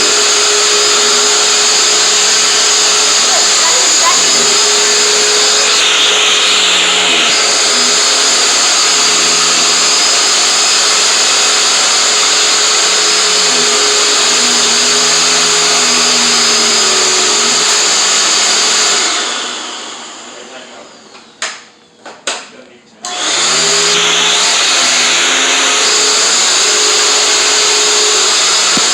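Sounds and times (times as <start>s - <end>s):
vacuum cleaner motor whining: 0.0s - 21.9s, 23.0s - 28.9s.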